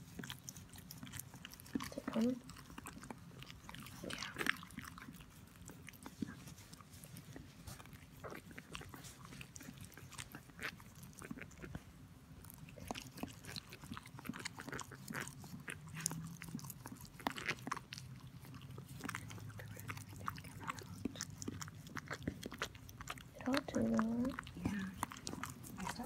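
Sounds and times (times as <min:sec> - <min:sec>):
dog licking puppy wetly: 0:00.0 - 0:11.9, 0:12.5 - 0:26.0.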